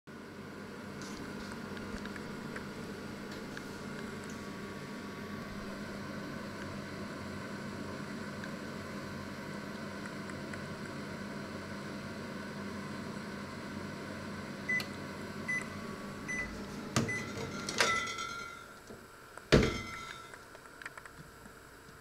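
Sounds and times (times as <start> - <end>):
microwave oven humming: 0.1 - 22.0.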